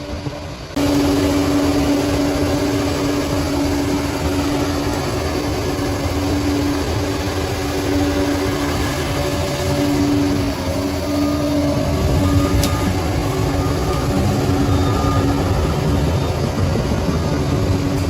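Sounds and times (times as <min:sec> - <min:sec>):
bulldozer diesel engine running: 0:00.0 - 0:18.0
steady whine: 0:00.0 - 0:18.0.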